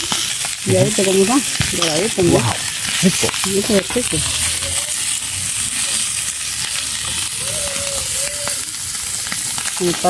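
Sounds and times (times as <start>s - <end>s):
chicken sizzling in frying pan: 0.0s - 10.0s.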